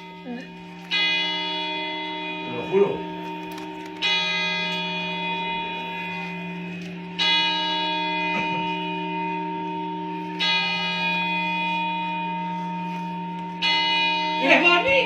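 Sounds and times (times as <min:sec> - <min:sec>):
sustained ringing chords: 0:00.0 - 0:15.0.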